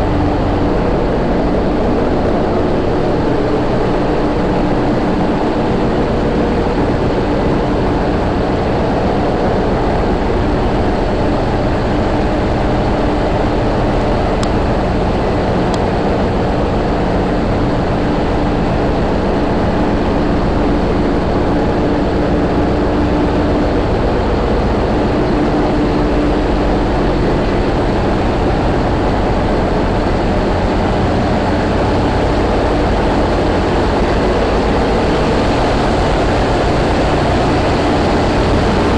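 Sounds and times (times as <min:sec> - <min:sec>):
heavy ship machinery rumbling: 0:00.0 - 0:38.9.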